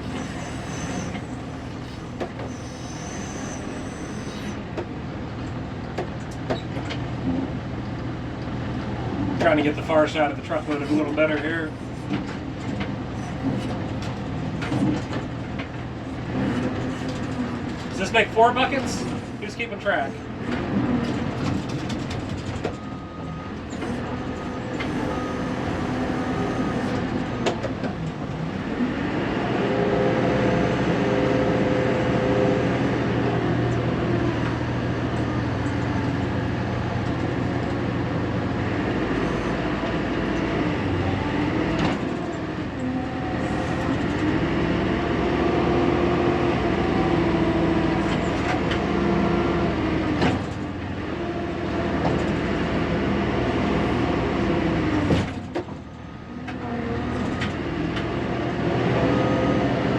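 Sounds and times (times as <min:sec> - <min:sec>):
backhoe diesel engine revving: 0:00.0 - 0:05.8, 0:08.1 - 0:55.5.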